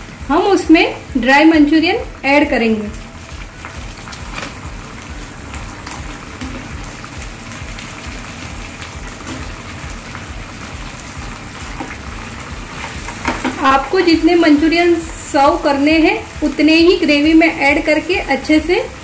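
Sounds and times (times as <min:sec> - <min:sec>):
gravy sizzling in a frying pan: 0:00.0 - 0:19.0.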